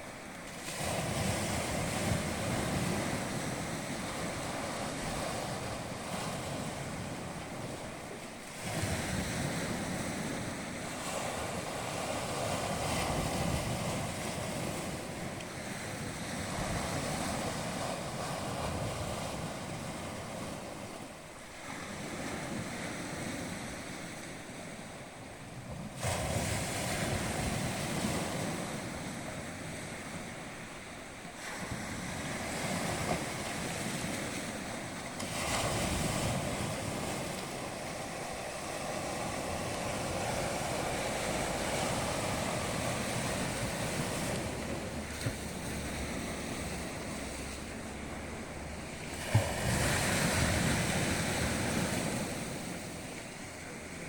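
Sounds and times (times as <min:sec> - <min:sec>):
sea waves washing on shore: 0:00.0 - 0:54.0
wind rumbling on microphone: 0:00.0 - 0:54.0.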